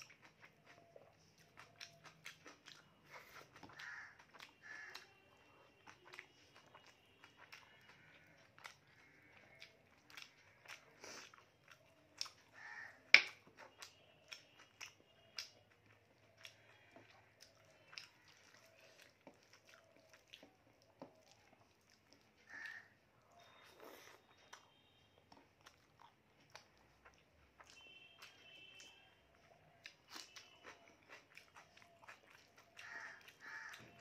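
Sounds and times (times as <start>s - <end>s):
chewing and lip smacks: 0.0s - 34.0s.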